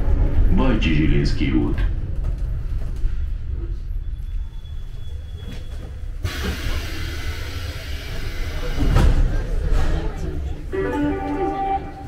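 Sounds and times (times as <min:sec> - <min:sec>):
metro car wheels rumbling: 0:00.0 - 0:12.0.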